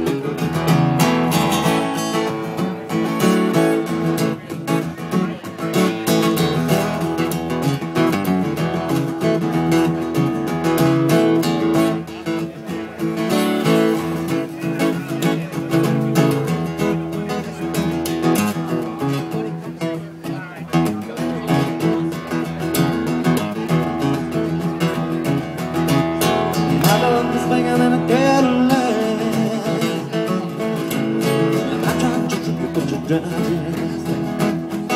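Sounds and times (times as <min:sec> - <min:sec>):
acoustic guitar strummed: 0:00.0 - 0:34.9.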